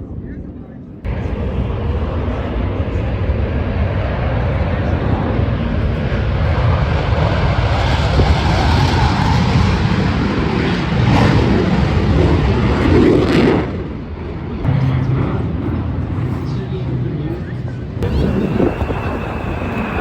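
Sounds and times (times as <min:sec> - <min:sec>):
passing aircraft engine: 0:00.1 - 0:20.0.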